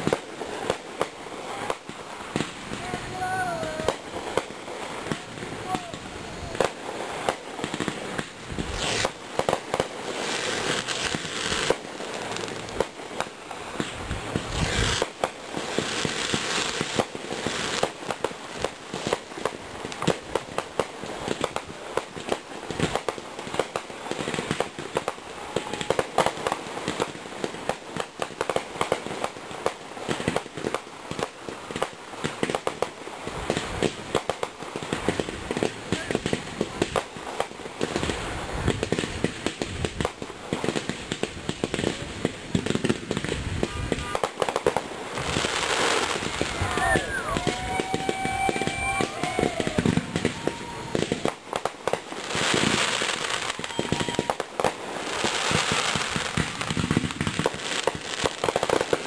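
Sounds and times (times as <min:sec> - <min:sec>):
fireworks popping and crackling: 0:00.0 - 0:59.0.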